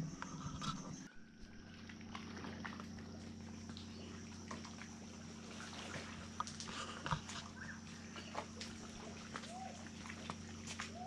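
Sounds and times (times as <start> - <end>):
water lapping among rocks: 0.2 - 11.0.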